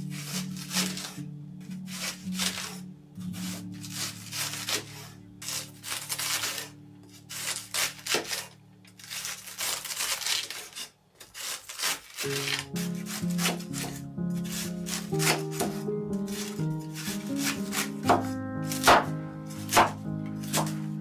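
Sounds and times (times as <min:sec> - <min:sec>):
faint background music: 0:00.0 - 0:11.0, 0:11.6 - 0:21.0
knife shredding cabbage: 0:00.0 - 0:21.0.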